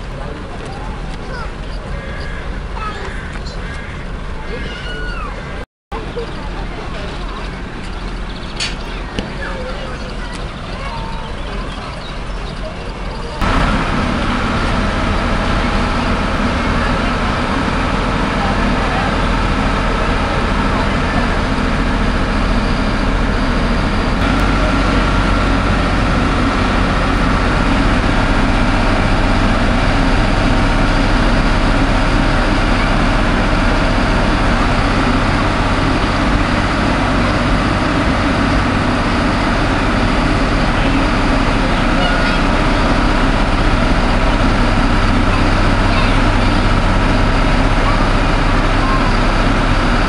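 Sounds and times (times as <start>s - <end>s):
diesel train engines idling: 0.0s - 50.0s.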